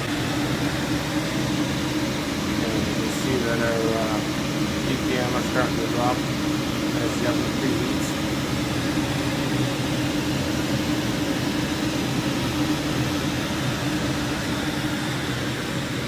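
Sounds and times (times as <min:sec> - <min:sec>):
range hood fan running: 0:00.0 - 0:16.0.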